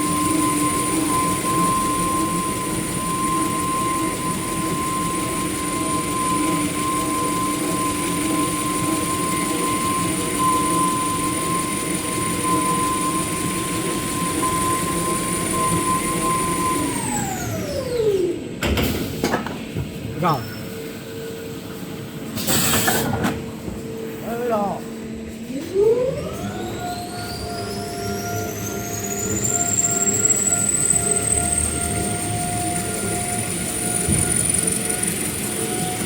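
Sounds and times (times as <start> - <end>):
machinery high whine: 0.0 - 36.0
mechanical hum: 0.0 - 36.0.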